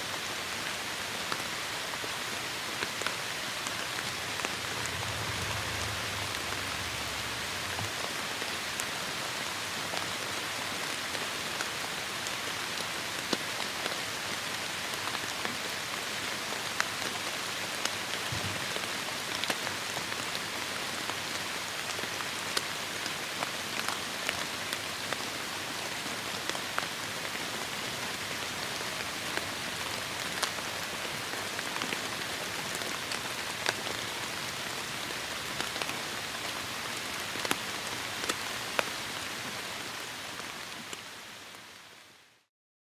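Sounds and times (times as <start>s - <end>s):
heavy rain falling: 0.1s - 42.2s.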